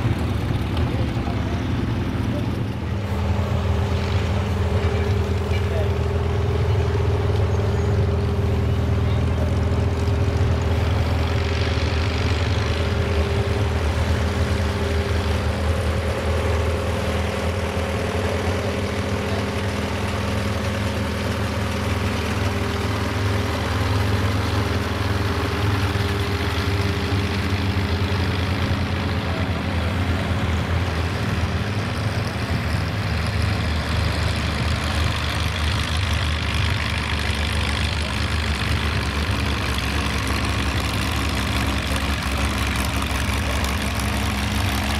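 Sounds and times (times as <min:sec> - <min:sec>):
tractor engine running under load: 0:00.0 - 0:44.9.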